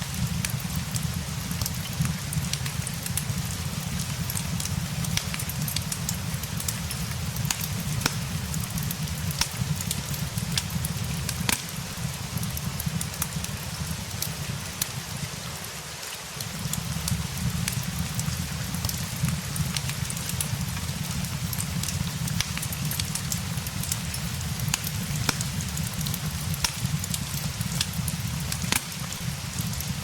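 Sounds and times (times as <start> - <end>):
fireplace crackling: 0.0 - 30.0
rain hissing: 0.0 - 30.0.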